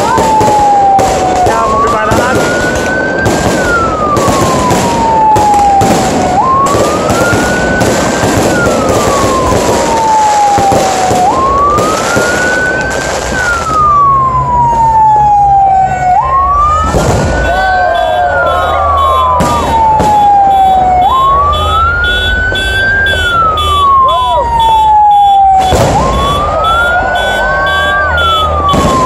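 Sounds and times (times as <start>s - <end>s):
fireworks crackling and popping: 0.0s - 14.3s, 16.8s - 29.0s
emergency vehicle siren wailing: 0.0s - 29.0s.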